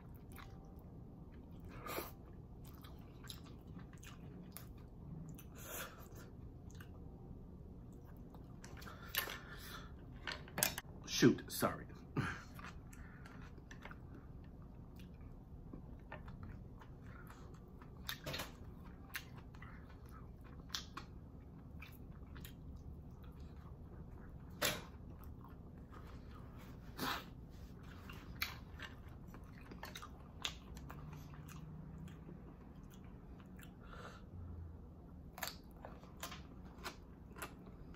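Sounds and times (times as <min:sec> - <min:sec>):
person chewing food: 0:00.0 - 0:10.3, 0:12.2 - 0:37.9.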